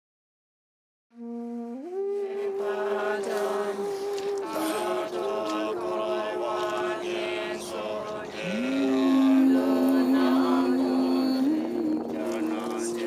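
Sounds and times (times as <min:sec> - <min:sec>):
group chanting prayer: 0:02.4 - 0:13.0.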